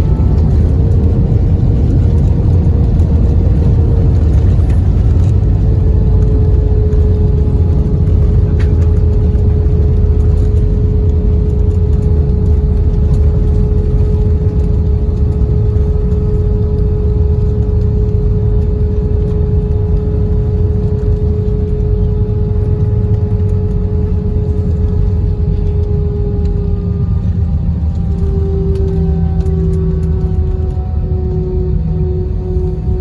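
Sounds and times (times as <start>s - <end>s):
jet engines and airflow rumble: 0.0s - 33.0s
steady cabin hum: 0.0s - 33.0s.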